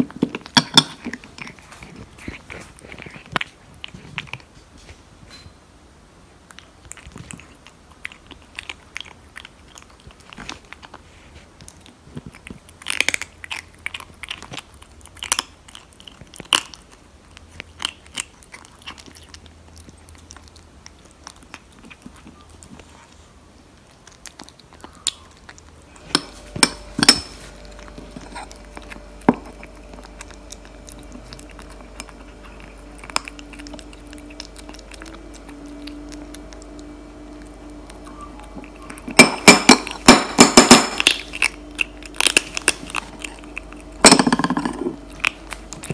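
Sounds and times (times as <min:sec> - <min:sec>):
kitten crunching dry kibble: 0:00.0 - 0:05.5, 0:06.3 - 0:45.9
faint steady hum: 0:00.0 - 0:45.9.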